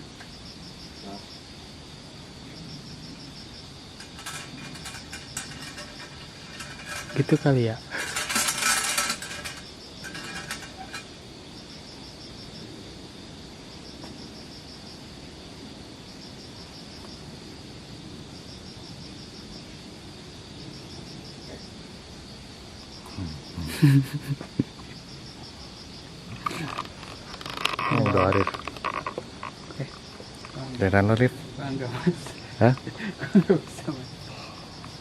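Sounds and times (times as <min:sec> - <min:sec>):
crickets chirping in pulsed trills: 0:00.0 - 0:35.0
high insect drone: 0:00.0 - 0:35.0.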